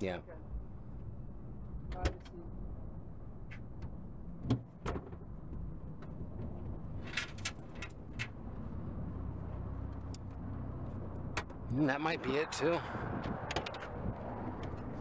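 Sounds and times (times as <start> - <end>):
steady low rumble: 0.2 - 4.4, 5.2 - 15.0.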